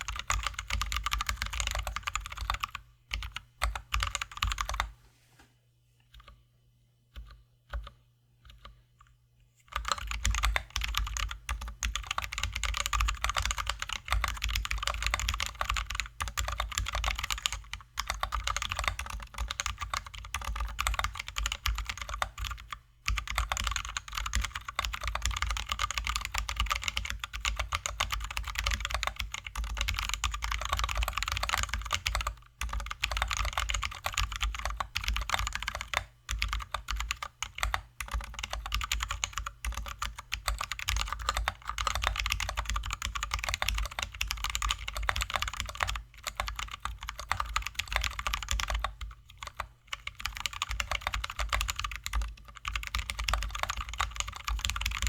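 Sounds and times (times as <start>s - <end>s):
typing on mechanical keyboard: 0.0s - 4.9s, 9.7s - 55.0s.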